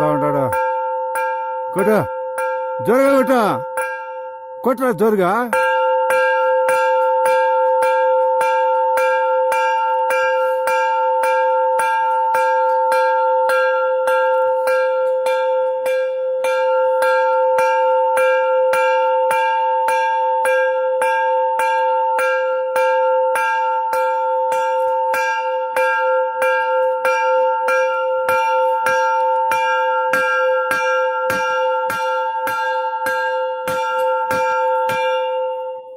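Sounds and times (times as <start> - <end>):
temple bell struck rapidly: 0.0 - 35.9.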